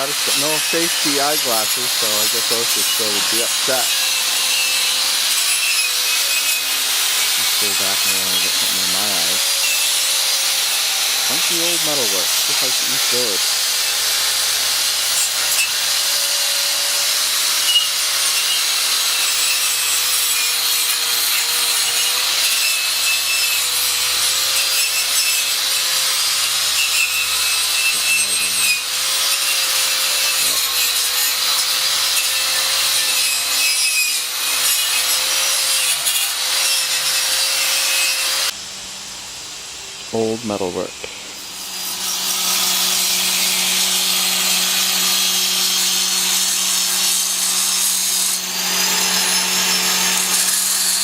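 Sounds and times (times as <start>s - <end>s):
arc welding crackling hiss: 0.0s - 49.4s.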